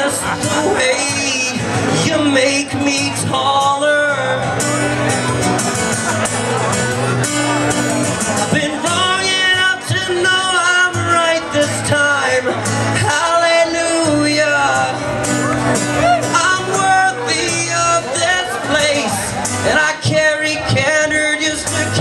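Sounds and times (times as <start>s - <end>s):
guitar accompaniment: 0.0s - 22.0s
person singing live: 0.0s - 22.0s.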